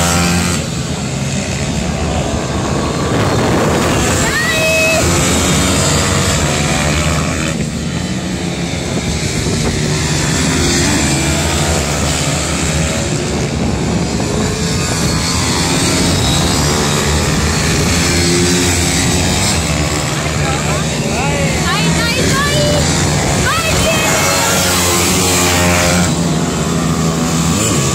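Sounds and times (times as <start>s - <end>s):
pit bike engines revving: 0.0s - 27.9s.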